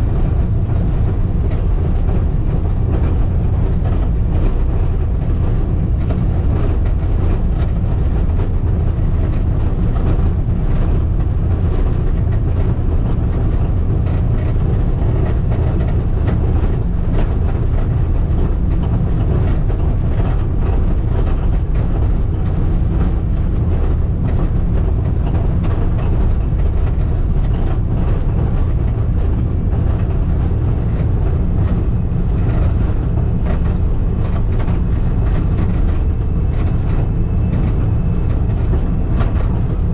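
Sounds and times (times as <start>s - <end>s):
diesel engine running: 0.0s - 39.9s
gravel clatter and rattle: 0.0s - 39.9s.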